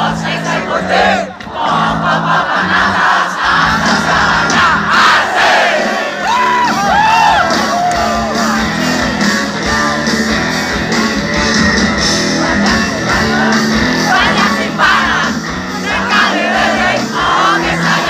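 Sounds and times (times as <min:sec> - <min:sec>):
crowd singing and shouting: 0:00.0 - 0:18.0
live rock music: 0:00.0 - 0:18.0.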